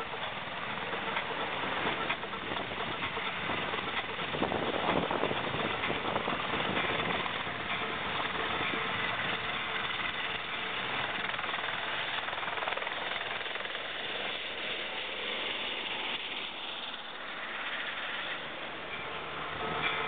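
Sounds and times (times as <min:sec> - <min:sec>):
helicopter turbine and rotor: 0:00.0 - 0:20.0.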